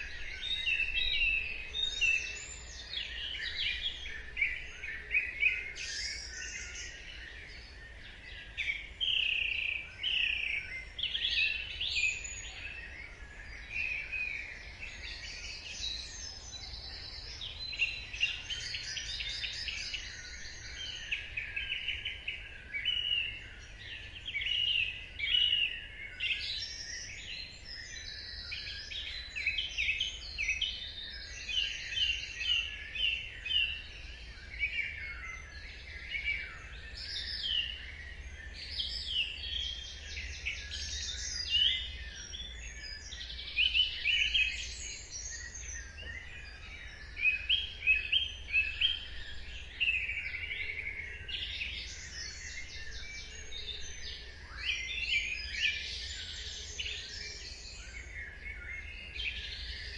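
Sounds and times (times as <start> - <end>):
many songbirds singing: 0.0 - 59.9.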